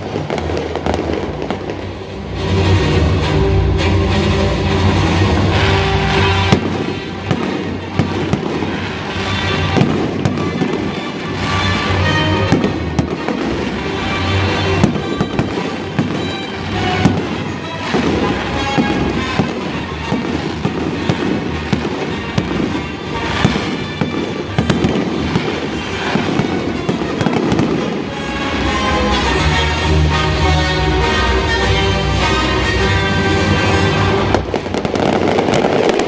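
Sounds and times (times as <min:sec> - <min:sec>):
fireworks bangs and crackles: 0:00.0 - 0:03.4, 0:04.6 - 0:31.5, 0:32.1 - 0:36.0
music playing: 0:00.0 - 0:36.0.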